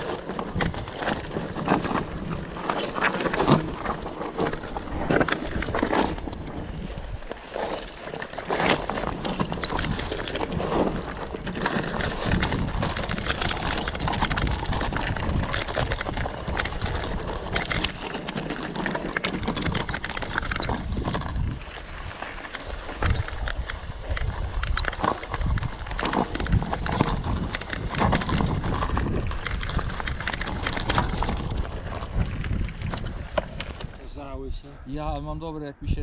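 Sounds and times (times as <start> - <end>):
mountain bike clattering on trail: 0.0 - 34.2.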